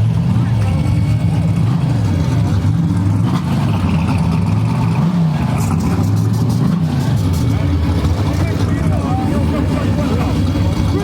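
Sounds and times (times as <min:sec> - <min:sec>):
race car engine running rough: 0:00.0 - 0:11.0.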